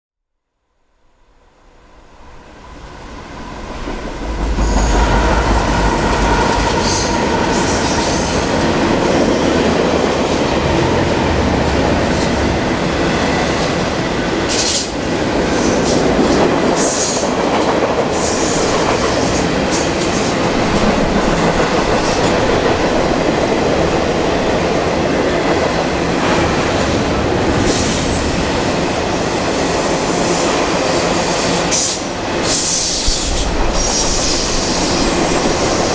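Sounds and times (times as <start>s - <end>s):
freight train passing: 0.8s - 35.9s
steel wheels rumbling on rail: 1.4s - 35.9s
rail clicks and clatter: 3.6s - 35.9s.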